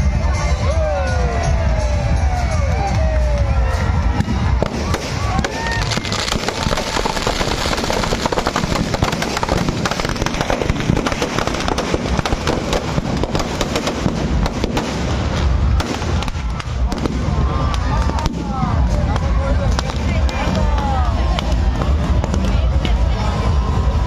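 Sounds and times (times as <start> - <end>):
firecrackers crackling: 3.2 - 24.0.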